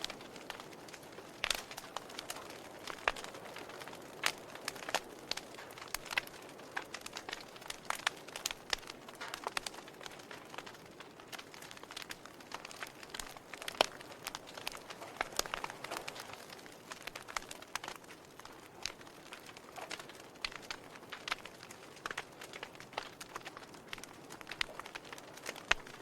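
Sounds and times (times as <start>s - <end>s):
fire pops and snaps: 0.0s - 26.0s
low hiss of burning: 0.0s - 26.0s
wood fire crackling: 0.0s - 26.0s.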